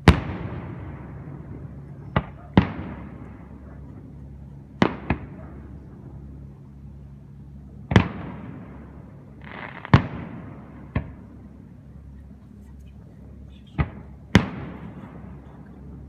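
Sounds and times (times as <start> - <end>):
distant fireworks bangs: 0.0 - 6.5, 7.8 - 12.4, 13.4 - 16.0.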